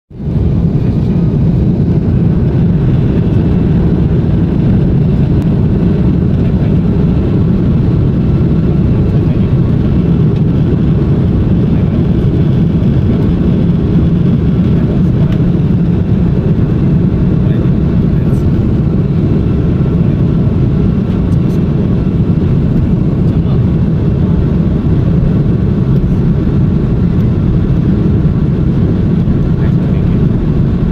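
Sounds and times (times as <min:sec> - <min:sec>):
jet engine cabin rumble: 0:00.1 - 0:30.9.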